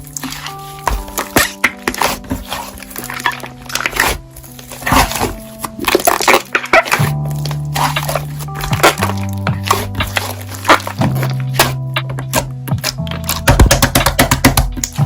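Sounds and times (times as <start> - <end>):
background music: 0.0 - 15.0
slime crackling and squishing: 0.0 - 15.0.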